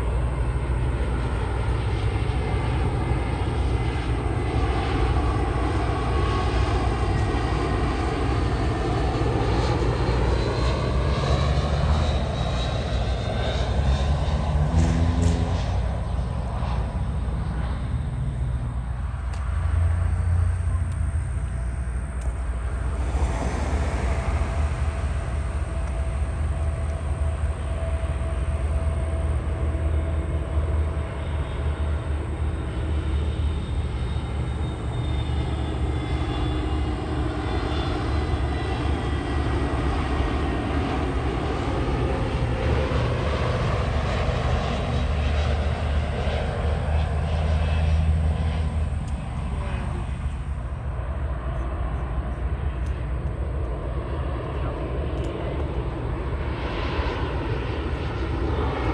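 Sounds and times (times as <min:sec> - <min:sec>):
jet airliner engines passing: 0:00.0 - 0:58.9.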